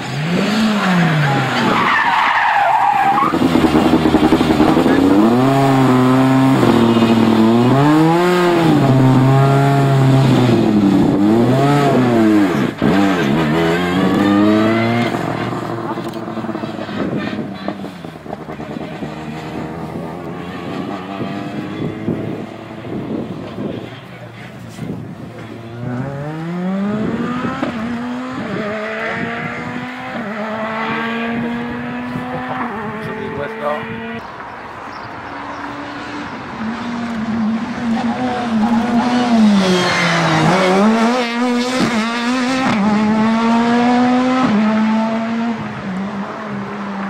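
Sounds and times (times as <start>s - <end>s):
rally car engine revving: 0.0s - 34.4s, 35.4s - 47.0s.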